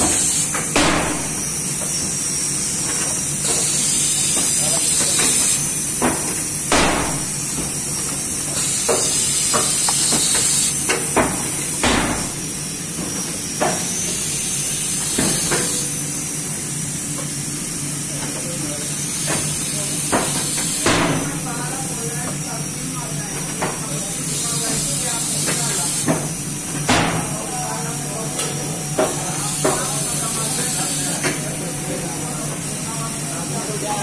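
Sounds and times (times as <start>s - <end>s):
machine hiss and hum: 0.0s - 34.0s.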